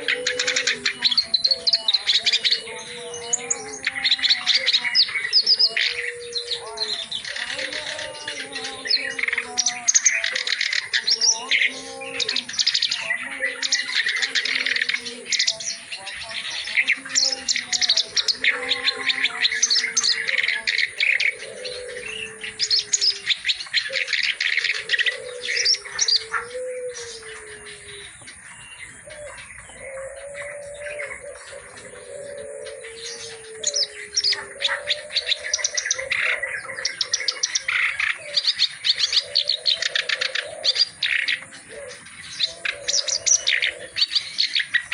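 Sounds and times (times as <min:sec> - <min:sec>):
warbler singing chattering song: 0:00.0 - 0:44.9.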